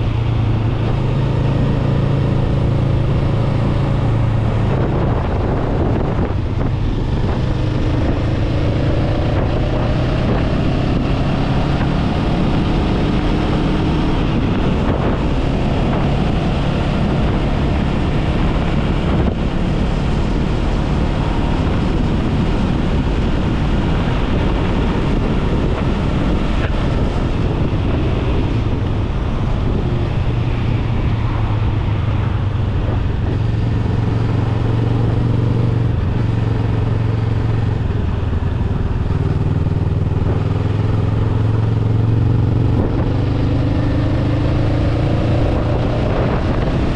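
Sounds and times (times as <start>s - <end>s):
motorcycle engine running: 0.0s - 46.9s
wind on microphone: 0.0s - 46.9s.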